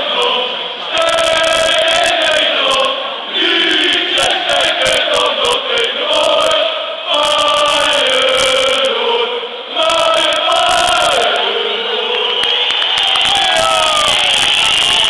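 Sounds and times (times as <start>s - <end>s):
stadium crowd chanting: 0.0s - 15.0s.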